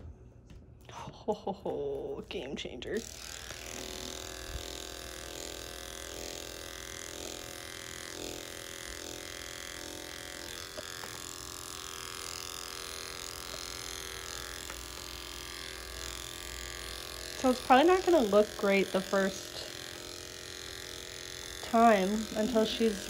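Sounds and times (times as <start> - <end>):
electric clippers humming: 1.6 - 23.0.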